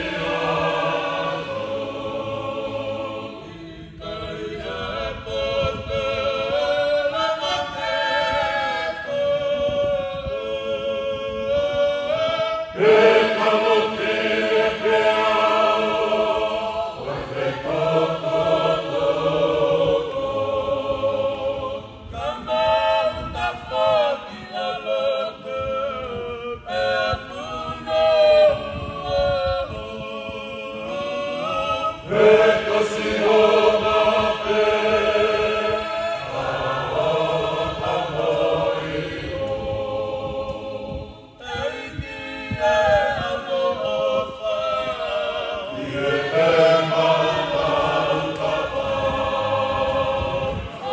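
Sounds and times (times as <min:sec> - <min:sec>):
choir singing unaccompanied: 0:00.0 - 0:50.9.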